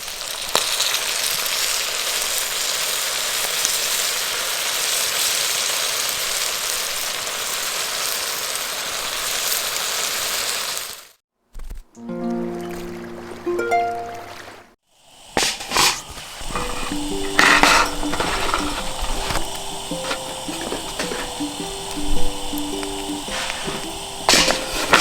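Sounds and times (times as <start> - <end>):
rice sizzling in a hot pan: 0.0 - 11.2, 14.9 - 25.0.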